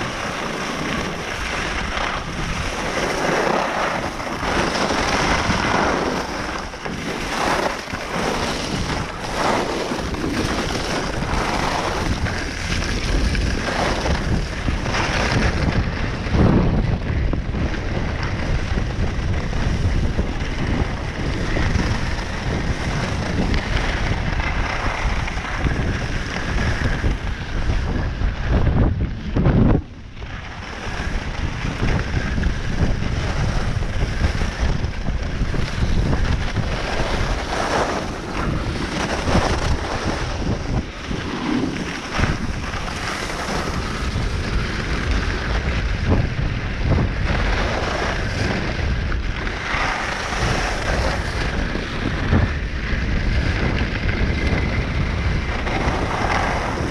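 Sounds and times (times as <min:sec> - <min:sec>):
skis scraping on snow: 0:00.0 - 0:56.9
wind rushing over microphone: 0:00.0 - 0:56.9.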